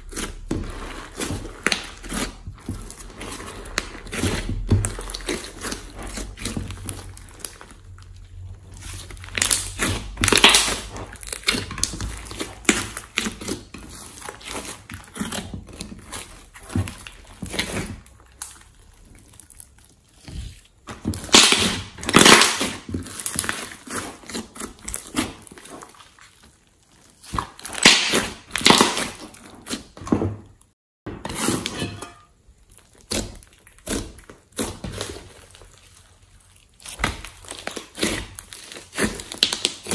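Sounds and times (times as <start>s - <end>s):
slime squishing by hand: 0.0s - 30.7s, 31.3s - 39.9s.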